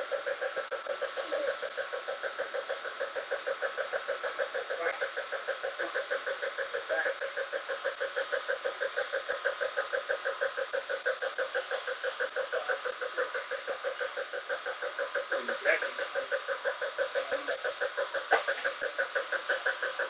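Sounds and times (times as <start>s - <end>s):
car engine knocking: 0.0s - 20.0s.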